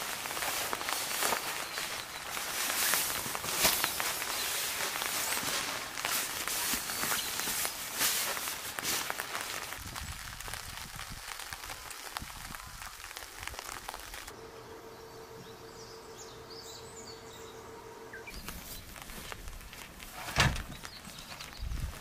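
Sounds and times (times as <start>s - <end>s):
fabric groundsheet rustling: 0.0s - 14.4s, 18.3s - 22.0s.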